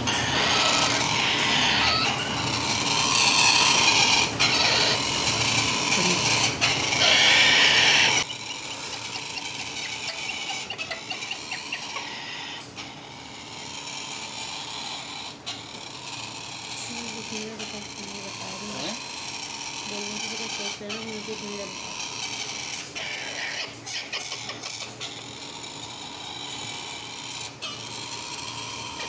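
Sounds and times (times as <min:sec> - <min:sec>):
chicks rasping begging calls: 0:00.0 - 0:29.0.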